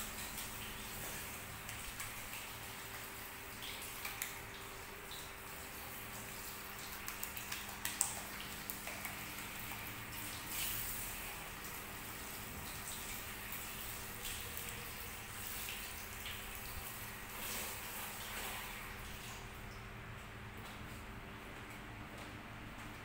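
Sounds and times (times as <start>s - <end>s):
small splashes and clicks: 0.0s - 23.0s.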